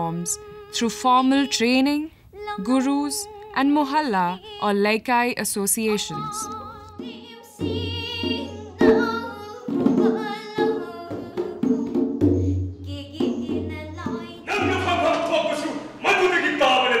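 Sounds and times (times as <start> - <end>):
woman singing with vibrato: 0.0 - 14.6.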